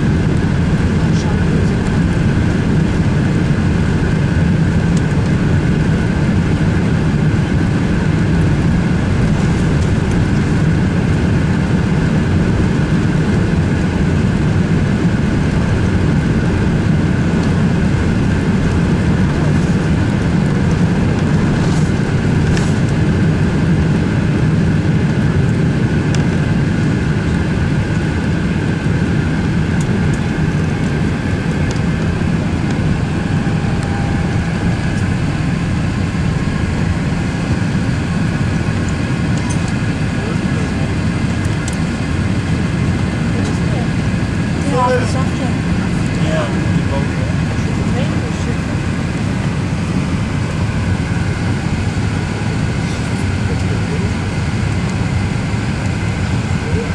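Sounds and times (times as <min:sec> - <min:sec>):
jet engines rumbling on take-off: 0:00.0 - 0:56.9.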